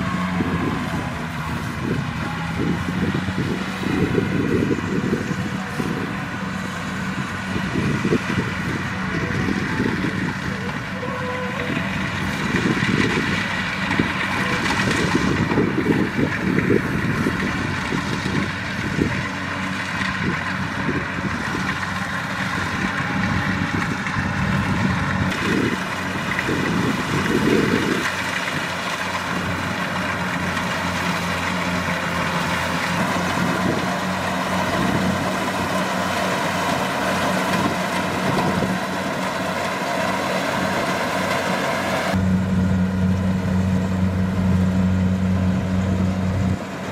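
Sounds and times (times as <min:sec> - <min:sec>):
uneven low rumbling: 0:00.0 - 0:40.8, 0:42.0 - 0:46.9
combine harvester engine running: 0:00.0 - 0:46.9.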